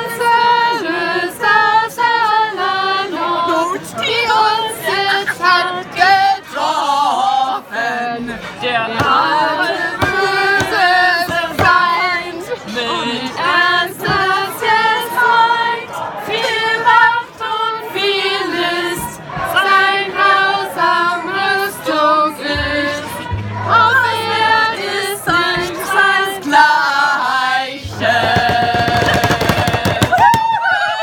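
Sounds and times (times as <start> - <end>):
group singing in chorus: 0.0 - 31.0.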